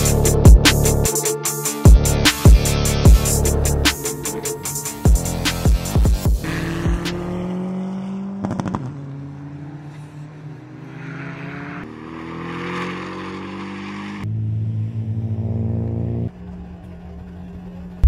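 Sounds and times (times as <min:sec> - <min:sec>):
car engine accelerating: 0:01.9 - 0:18.0.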